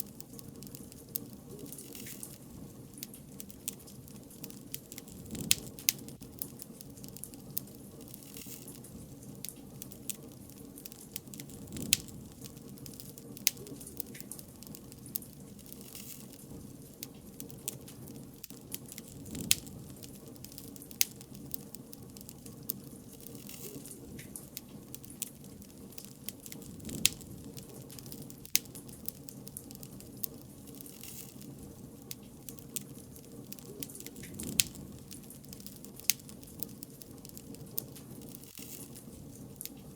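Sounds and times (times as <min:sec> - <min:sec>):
bonfire crackling and popping: 0:00.0 - 0:39.9
low rumble of burning: 0:00.0 - 0:39.9.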